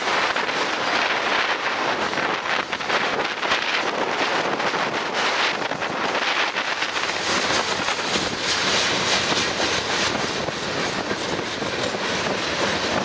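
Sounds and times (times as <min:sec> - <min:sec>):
train wheels clacking on rail joints: 0:00.0 - 0:13.0
wind buffeting microphone: 0:00.0 - 0:13.0.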